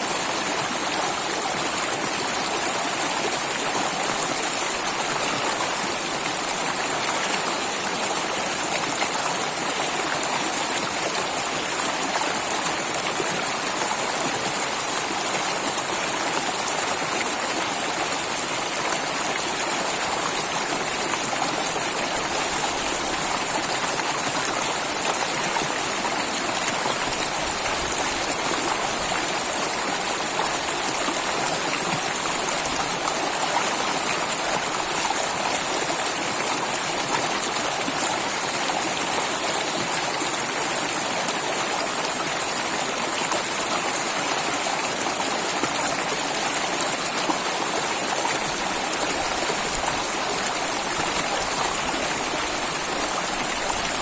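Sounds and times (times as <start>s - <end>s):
water flowing: 0.0s - 54.0s.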